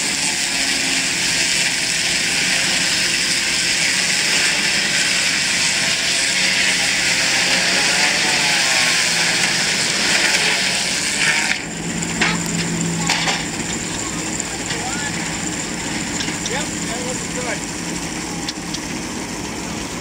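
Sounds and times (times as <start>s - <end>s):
saw blade cutting log: 0.0s - 18.9s.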